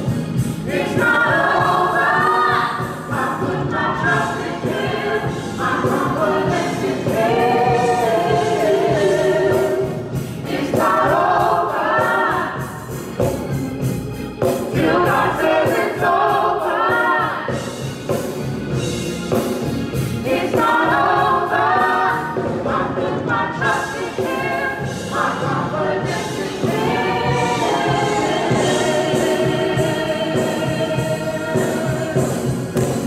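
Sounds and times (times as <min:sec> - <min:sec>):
vocal group singing gospel: 0:00.0 - 0:13.7, 0:14.3 - 0:18.4, 0:19.9 - 0:33.0.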